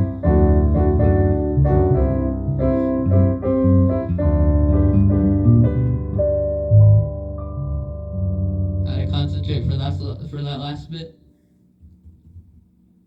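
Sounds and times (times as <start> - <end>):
piano chords over bass notes: 0.0 - 11.0.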